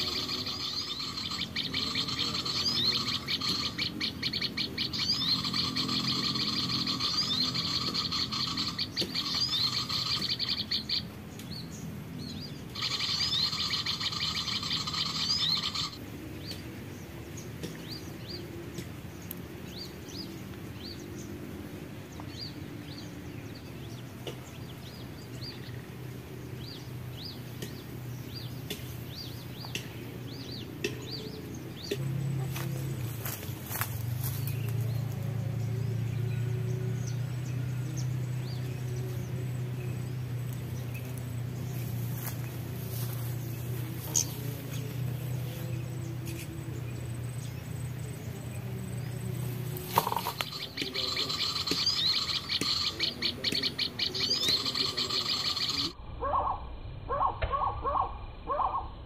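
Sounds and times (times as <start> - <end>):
recorded songbirds chirping: 0.0 - 59.0.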